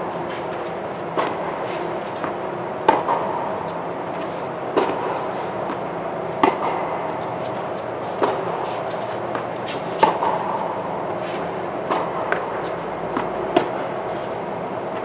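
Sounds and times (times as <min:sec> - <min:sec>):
steady hum: 0:00.0 - 0:15.0
tennis racket hitting ball: 0:00.1 - 0:14.4.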